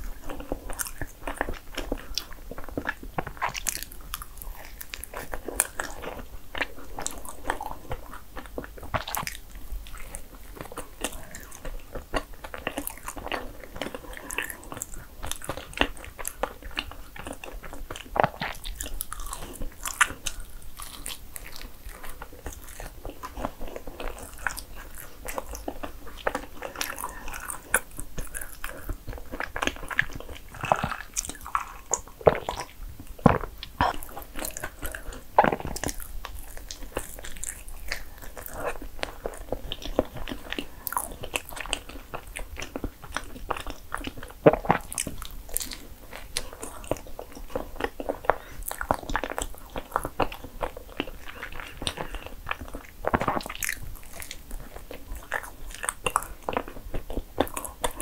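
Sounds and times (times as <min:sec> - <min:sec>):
biting and chewing bread: 0:00.0 - 0:58.0.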